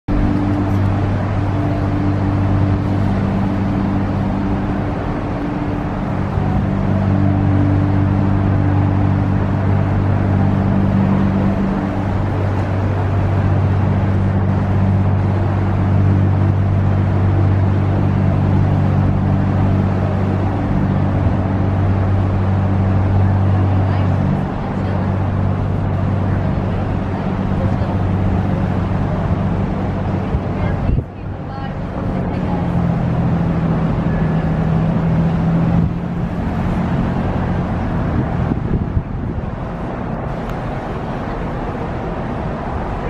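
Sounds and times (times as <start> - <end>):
ship machinery droning hum: 0.0 - 43.0.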